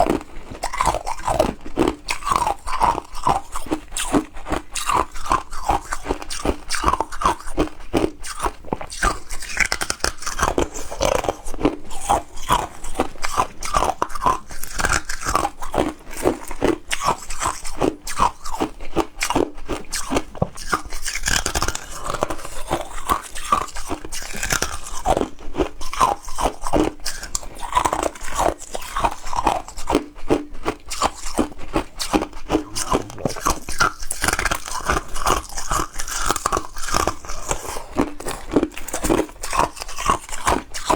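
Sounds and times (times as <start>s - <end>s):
ice crunching being chewed: 0.0s - 40.9s.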